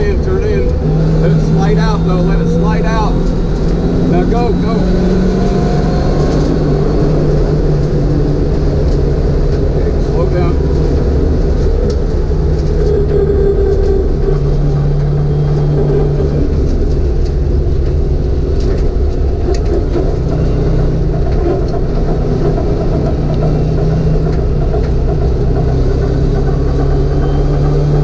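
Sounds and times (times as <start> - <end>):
car engine running: 0.0 - 28.0
road and wind noise: 0.0 - 28.0.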